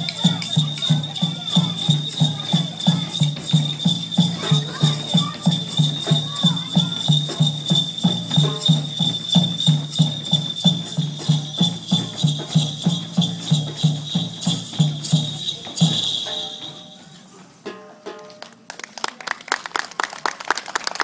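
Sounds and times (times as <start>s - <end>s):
low drum beat: 0.0s - 17.0s
bells jingling: 0.0s - 17.7s.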